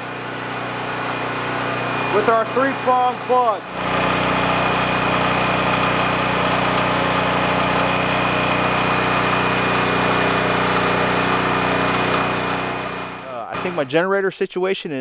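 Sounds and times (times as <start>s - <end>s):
generator engine running: 0.0s - 14.1s.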